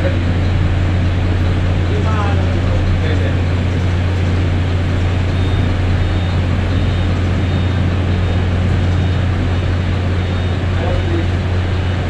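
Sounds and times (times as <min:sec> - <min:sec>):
water pump humming: 0:00.0 - 0:12.0.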